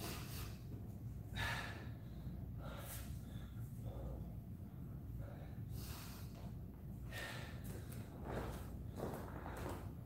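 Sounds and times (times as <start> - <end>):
low steady hum: 0.0 - 10.0
person breathing hard: 0.0 - 10.0.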